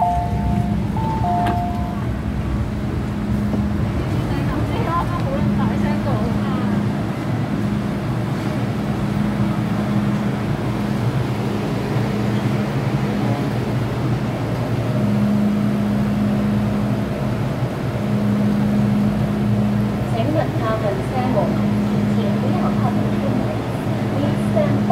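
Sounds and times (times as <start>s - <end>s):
low motor hum: 0.0s - 24.9s
train wheels rumbling in tunnel: 0.0s - 24.9s.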